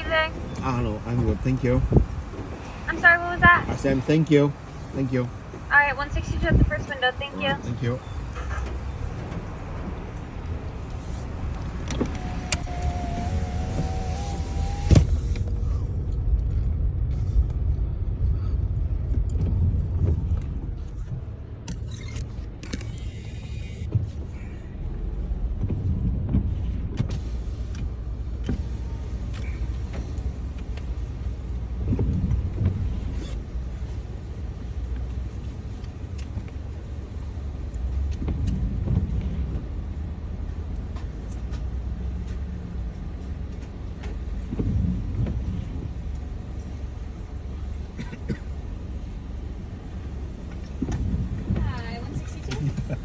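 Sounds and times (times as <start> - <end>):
car idling rumble: 0.0 - 53.0.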